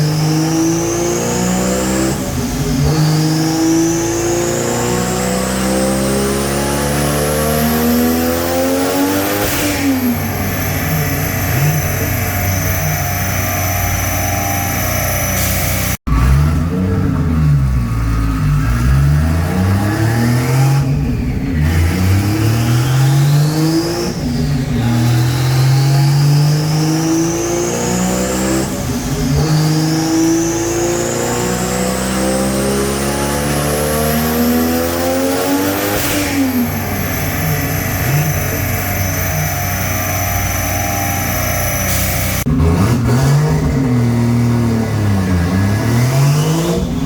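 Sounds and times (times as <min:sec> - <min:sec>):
car engine at full throttle: 0:00.0 - 0:47.0.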